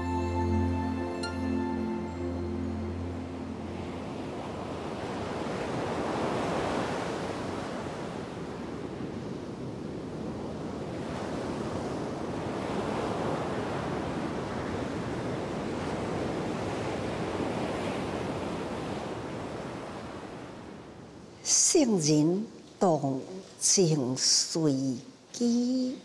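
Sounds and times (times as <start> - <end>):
ocean waves washing in: 0.3 - 21.4.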